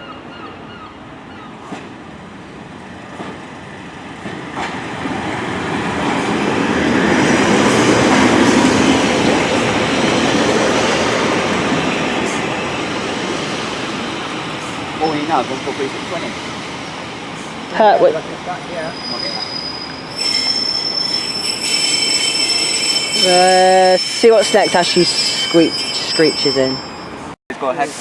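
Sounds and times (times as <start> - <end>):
diesel train rumbling: 0.3 - 28.0.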